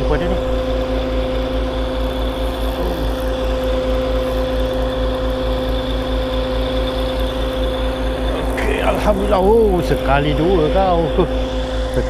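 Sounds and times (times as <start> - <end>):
engine droning with low throb: 0.0 - 12.0.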